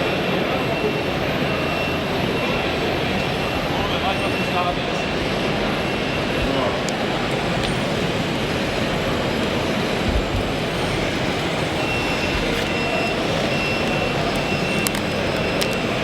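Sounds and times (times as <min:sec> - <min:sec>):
machinery running: 0:00.0 - 0:16.0
reversing beeper: 0:00.0 - 0:16.0.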